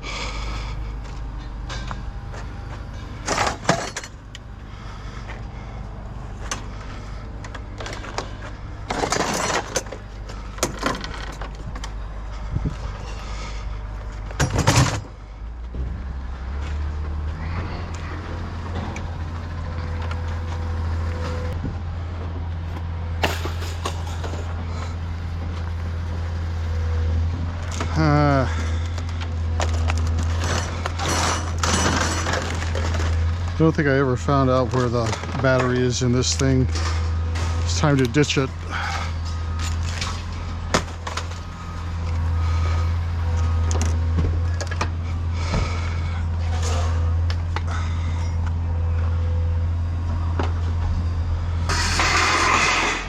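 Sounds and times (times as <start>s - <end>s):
vehicle engine rumbling: 0.0s - 53.0s.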